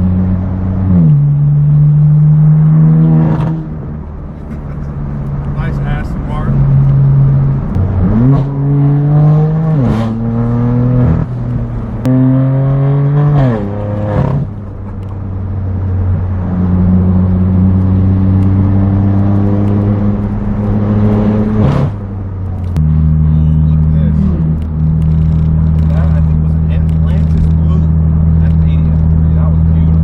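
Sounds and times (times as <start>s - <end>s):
car engine accelerating hard: 0.0s - 30.0s
exhaust cracks on shifts: 3.2s - 12.3s, 13.3s - 30.0s.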